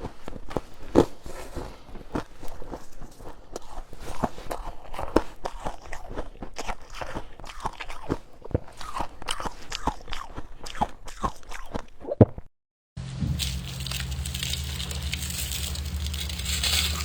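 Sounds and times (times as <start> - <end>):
crunching and chewing ice: 0.7 - 12.0, 13.3 - 17.0.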